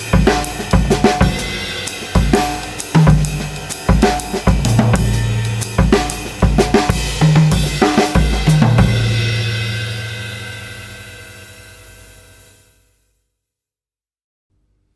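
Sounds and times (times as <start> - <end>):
drum kit playing: 0.0 - 12.4
cymbals ringing: 0.0 - 12.8.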